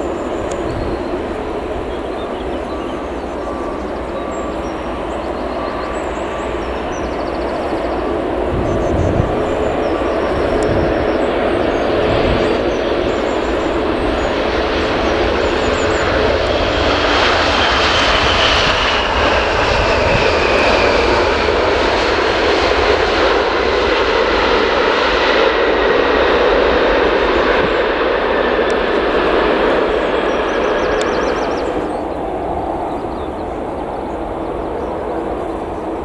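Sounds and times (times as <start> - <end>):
jet engines rushing and whining: 0.0 - 36.0.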